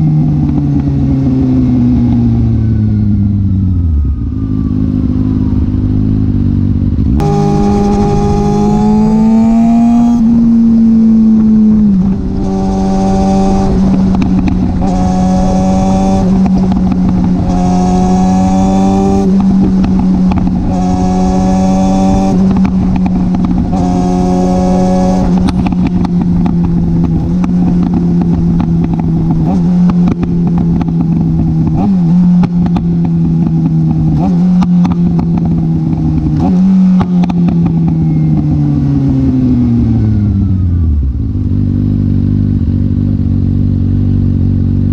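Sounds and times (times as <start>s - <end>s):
motorcycle engine at high revs: 0.0s - 44.9s.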